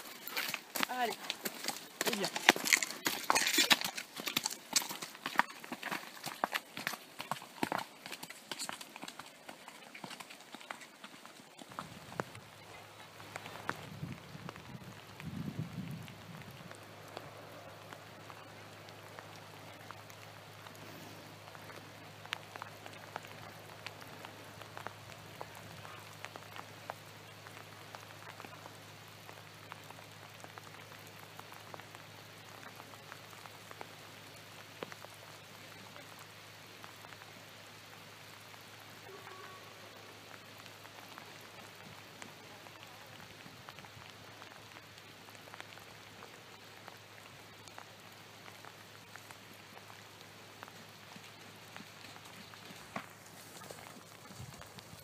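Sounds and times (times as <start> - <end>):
light rain pattering: 0.0 - 55.0.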